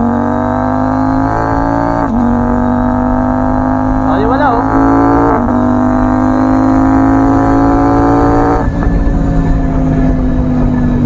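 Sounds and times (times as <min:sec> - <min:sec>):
motorcycle engine under throttle: 0:00.0 - 0:11.0.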